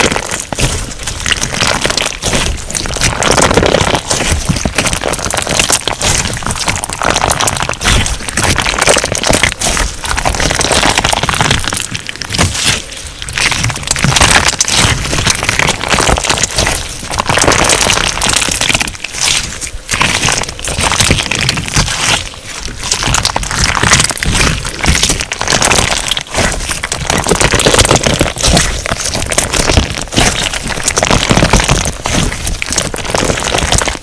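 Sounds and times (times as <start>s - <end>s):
crunchy slime crackling and popping: 0.0s - 34.0s.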